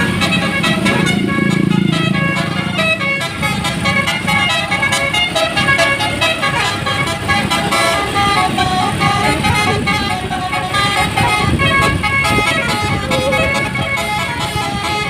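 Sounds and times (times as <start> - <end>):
musical air horn tune: 0.0 - 15.0.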